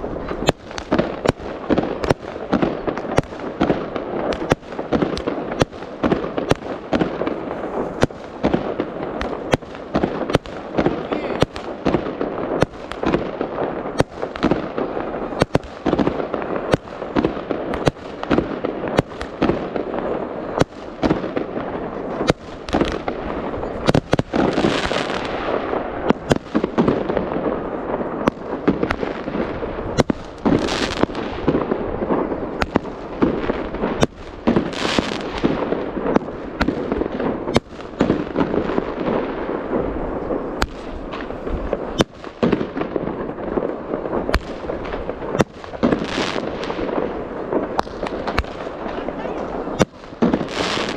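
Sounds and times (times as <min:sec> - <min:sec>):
fireworks banging: 0:00.0 - 0:50.9
fireworks crackling: 0:00.0 - 0:50.9
hissing firework bursts: 0:00.0 - 0:50.9.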